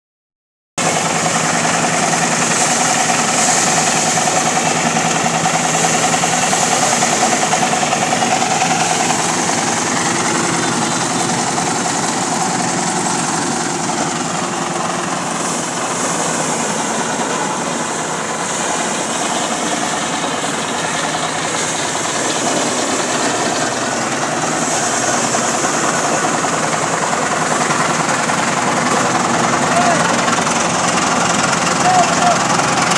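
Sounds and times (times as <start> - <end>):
engine running steadily: 0.8 - 32.9.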